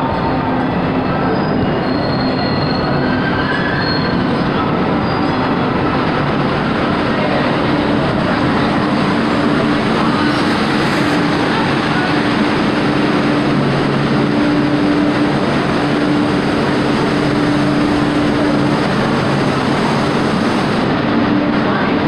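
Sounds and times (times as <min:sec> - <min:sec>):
underground station din: 0:00.0 - 0:22.0
train equipment humming: 0:04.2 - 0:22.0.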